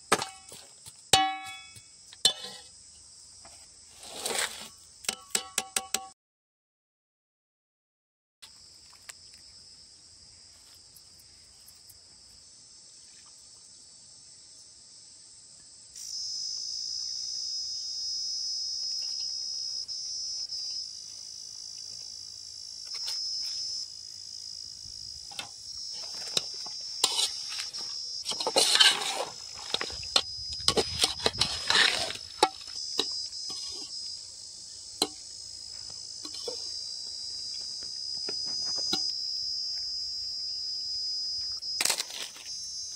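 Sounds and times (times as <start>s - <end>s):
insects chirping: 0.0s - 5.8s, 8.4s - 42.9s.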